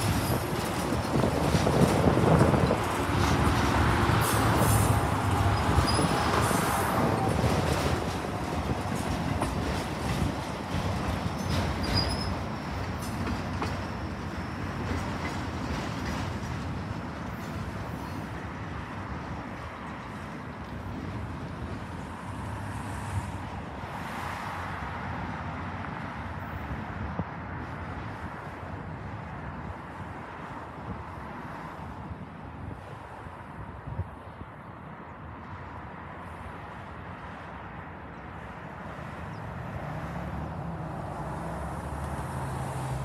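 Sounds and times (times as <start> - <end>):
freight train rolling on rails: 0.0 - 43.0.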